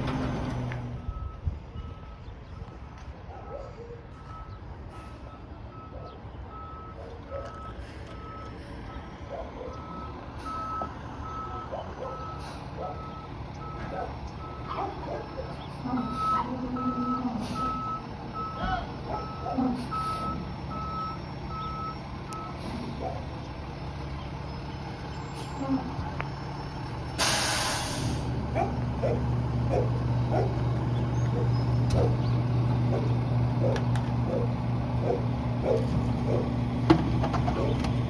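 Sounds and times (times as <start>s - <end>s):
truck engine running: 0.0s - 38.0s
truck reversing alarm beeping: 0.0s - 38.0s.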